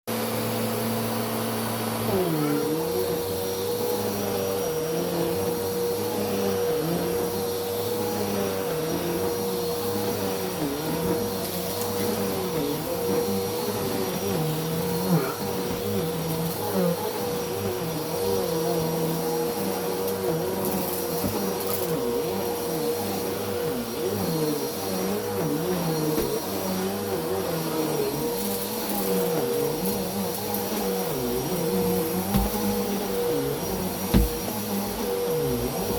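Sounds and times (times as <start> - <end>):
vacuum cleaner running on carpet: 0.1 - 35.9.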